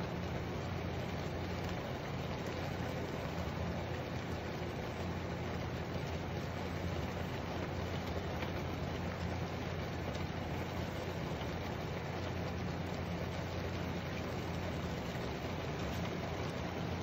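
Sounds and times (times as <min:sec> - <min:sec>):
low even hum: 0:00.0 - 0:17.0
water simmering in frying pan: 0:00.0 - 0:17.0.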